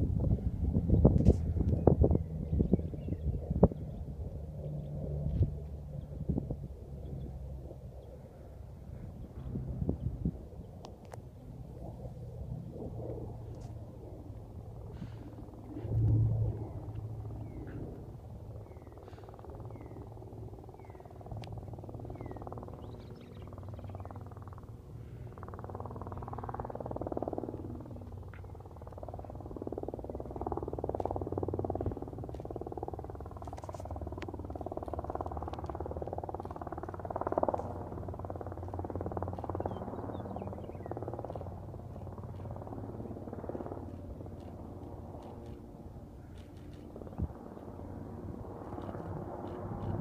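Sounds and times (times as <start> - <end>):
piston aircraft engine droning: 0.0 - 50.0.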